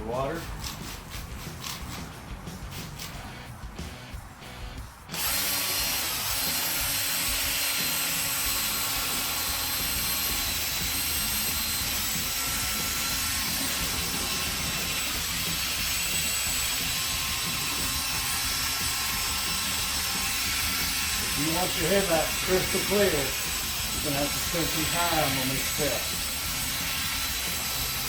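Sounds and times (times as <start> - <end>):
electric drill sanding: 0.2 - 3.5, 5.1 - 28.0.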